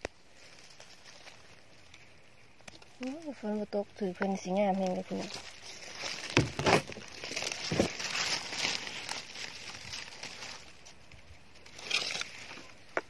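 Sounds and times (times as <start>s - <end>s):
leaves and twigs rustling: 0.0s - 13.0s.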